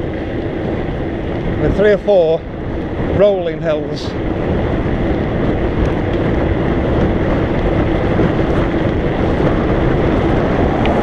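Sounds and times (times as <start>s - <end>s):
bike tyre noise on road: 0.0s - 11.0s
wind rushing over microphone: 0.0s - 11.0s.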